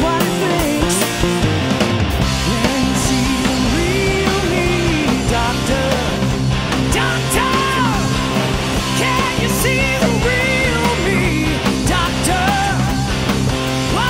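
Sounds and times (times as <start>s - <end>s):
bending guitar lead line: 0.0s - 14.0s
rock band playing: 0.0s - 14.0s.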